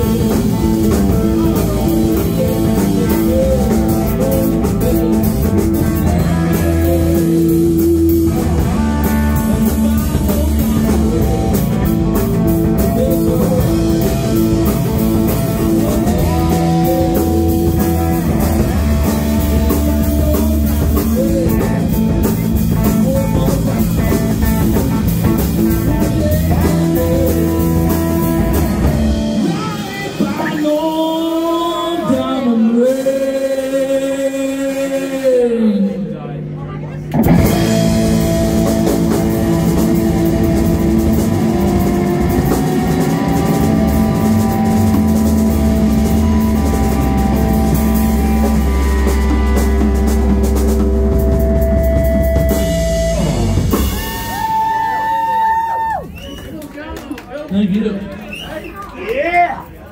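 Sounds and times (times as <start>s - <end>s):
electric guitar notes bending: 0.0s - 30.9s, 35.9s - 55.7s
blues-rock band playing: 0.0s - 33.4s, 37.0s - 56.5s.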